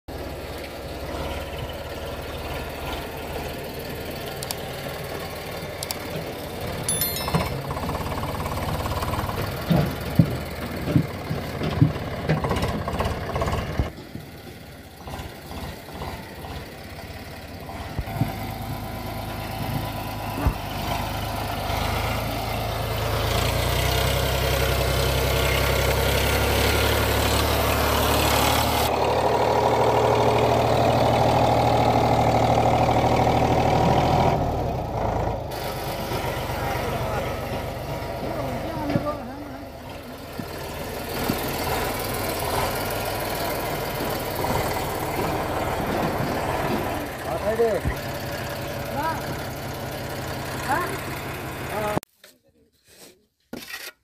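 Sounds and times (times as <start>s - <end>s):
tractor diesel engine under load: 0.1s - 52.0s.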